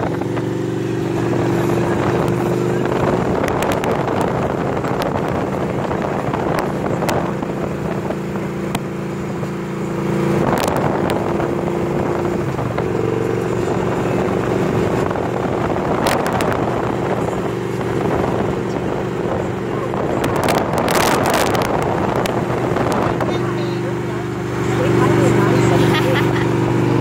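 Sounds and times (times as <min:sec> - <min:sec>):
motorcycle engine cruising: 0:00.0 - 0:27.0
wind noise on microphone: 0:00.0 - 0:27.0.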